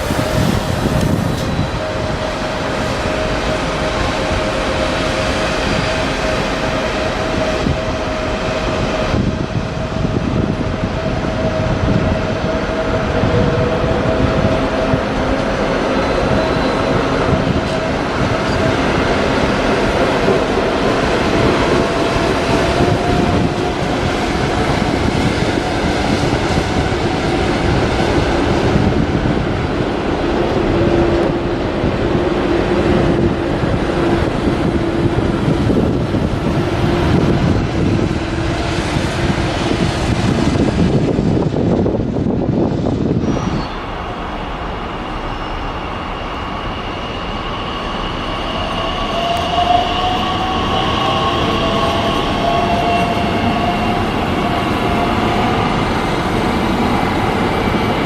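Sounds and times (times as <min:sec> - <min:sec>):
train rumble: 0:00.0 - 0:58.0.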